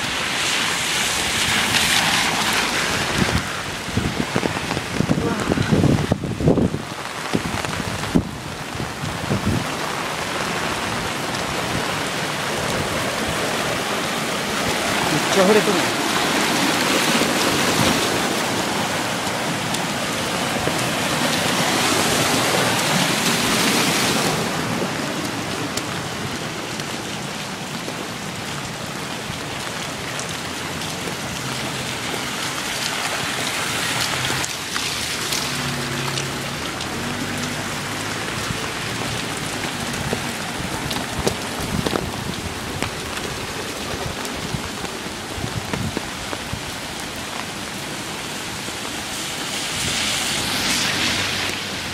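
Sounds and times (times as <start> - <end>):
heavy rain with wind: 0.0 - 51.9.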